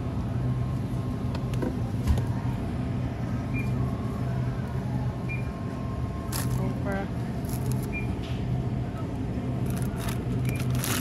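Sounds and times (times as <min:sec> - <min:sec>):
low freezer hum: 0:00.0 - 0:11.0.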